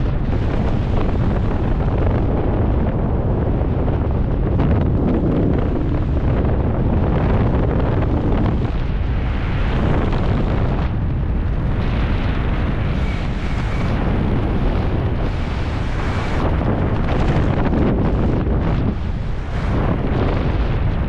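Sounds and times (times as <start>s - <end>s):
loud wind noise on microphone: 0.0s - 21.0s.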